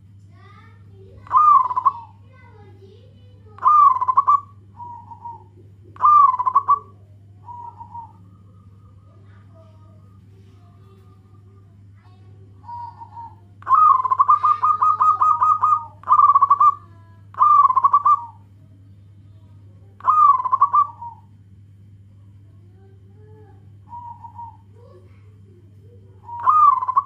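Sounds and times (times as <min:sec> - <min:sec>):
dove cooing: 0:00.0 - 0:18.6, 0:20.0 - 0:21.4, 0:22.8 - 0:27.0
steady low hum: 0:00.0 - 0:27.0.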